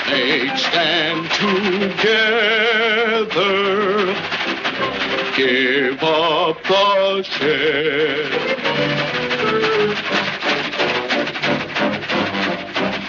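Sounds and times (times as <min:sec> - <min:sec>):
orchestral cartoon music: 0:00.0 - 0:13.0.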